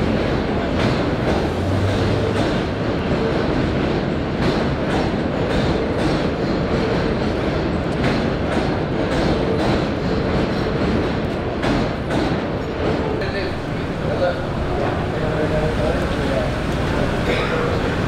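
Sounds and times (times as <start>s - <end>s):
train rumbling overhead: 0.0s - 18.0s
wheels clacking over rail joints: 0.0s - 18.0s.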